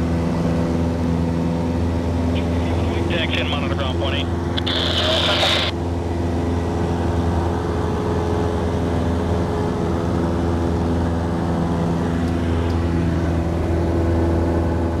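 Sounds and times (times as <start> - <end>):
plane engine drone in cabin: 0.0 - 15.0.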